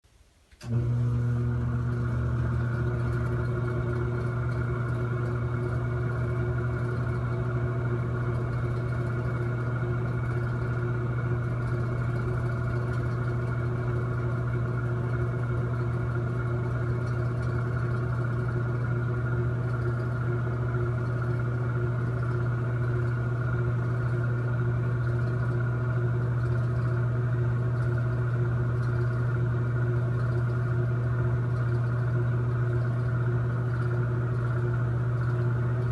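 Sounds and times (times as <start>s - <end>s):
exhaust fan humming: 0.1s - 35.9s.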